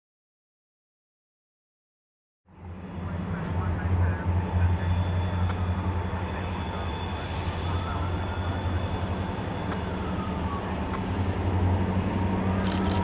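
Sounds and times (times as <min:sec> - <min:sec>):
diesel locomotive engine rumble: 0:02.5 - 0:13.0.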